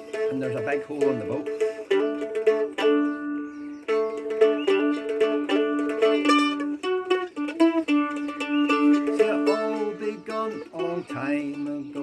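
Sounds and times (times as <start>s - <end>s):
mandolin playing: 0.0s - 12.0s.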